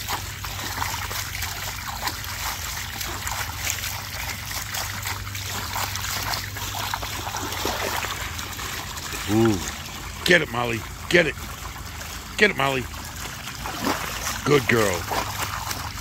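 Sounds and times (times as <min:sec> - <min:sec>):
dog lapping water: 0:00.0 - 0:16.0
hose water splashing into pool: 0:00.0 - 0:16.0.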